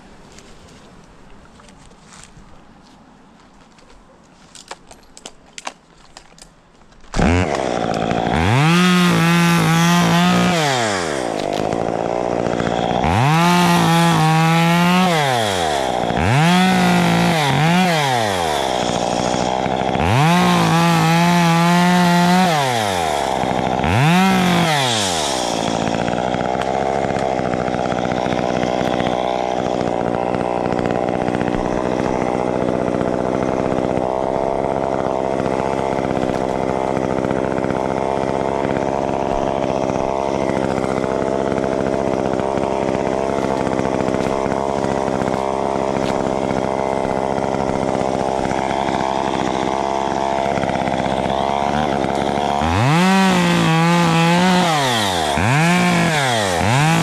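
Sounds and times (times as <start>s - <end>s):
chainsaw engine revving and idling: 7.2s - 57.0s.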